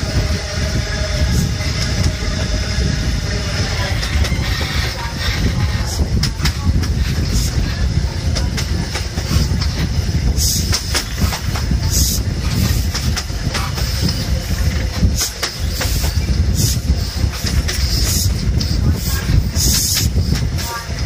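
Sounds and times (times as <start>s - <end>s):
train wheels rolling: 0.0s - 21.0s
wheels clicking on track: 0.0s - 21.0s
wind rush on microphone: 0.0s - 21.0s.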